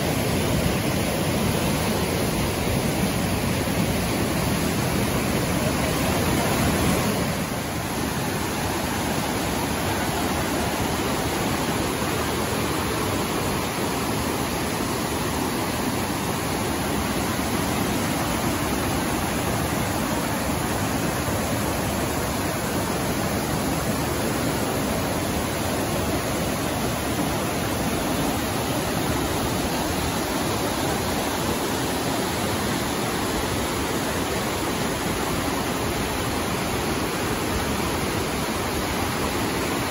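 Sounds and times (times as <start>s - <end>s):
creek water torrent: 0.0s - 39.9s.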